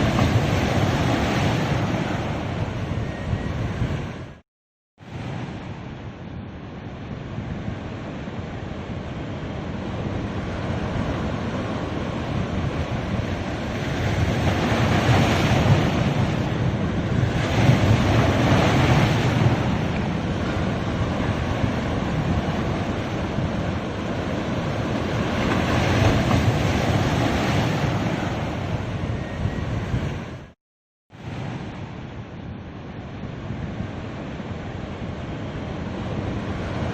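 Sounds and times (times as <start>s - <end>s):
ocean surf on beach: 0.0s - 4.4s, 5.0s - 36.9s.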